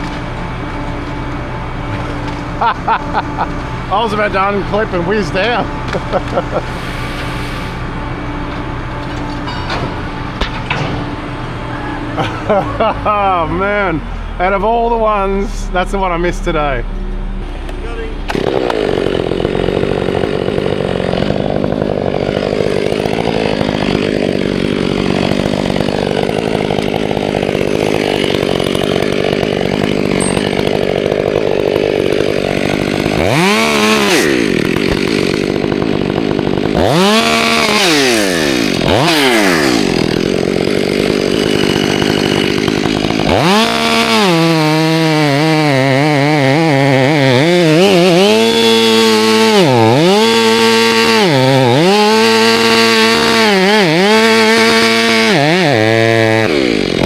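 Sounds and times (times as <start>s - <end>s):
chainsaw cutting wood: 0.0s - 15.2s, 17.4s - 57.0s.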